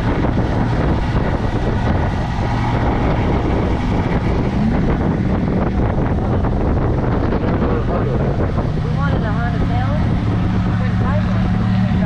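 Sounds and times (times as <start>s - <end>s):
vehicle engine running: 0.0s - 12.0s
wind buffeting microphone: 0.0s - 12.0s.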